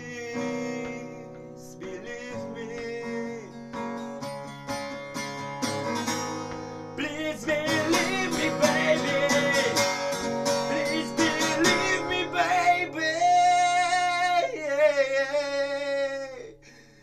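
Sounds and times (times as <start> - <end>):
man singing: 0.0 - 4.0, 6.9 - 17.0
strummed acoustic guitar: 0.0 - 17.0.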